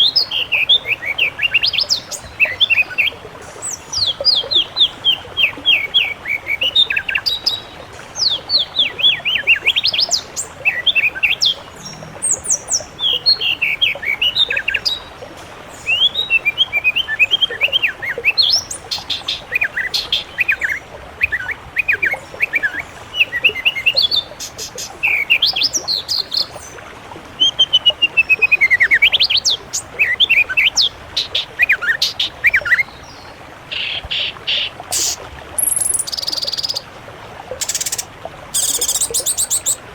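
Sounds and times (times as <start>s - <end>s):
songbirds singing: 0.0s - 15.1s, 15.7s - 26.8s, 27.4s - 36.9s, 37.6s - 39.9s.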